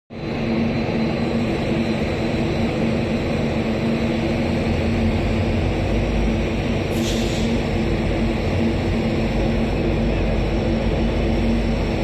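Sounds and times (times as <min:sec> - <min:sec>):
diesel locomotive engine running: 0:00.1 - 0:12.0.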